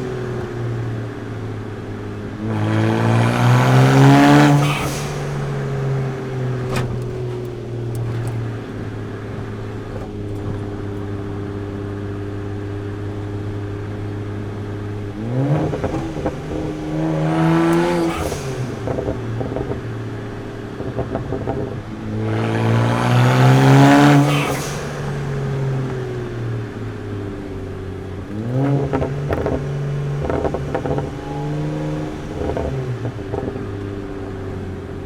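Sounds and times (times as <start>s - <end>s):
car engine accelerating hard: 0.0s - 35.0s
exhaust pops: 0.0s - 35.0s.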